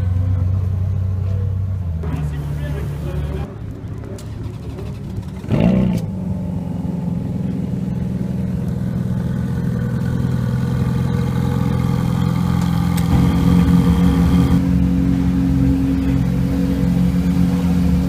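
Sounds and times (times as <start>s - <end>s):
car engine starting and idling: 0.0s - 18.0s.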